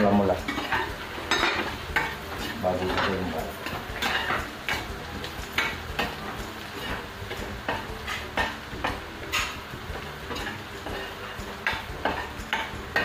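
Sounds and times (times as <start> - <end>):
light sizzle of oil: 0.0 - 13.0
metal spoon scraping a pan: 0.1 - 13.0.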